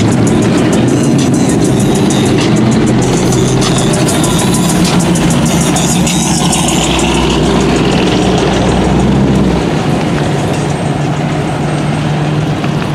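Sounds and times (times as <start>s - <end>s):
car engine pulling away: 0.0s - 12.9s
passing street traffic: 0.0s - 12.9s.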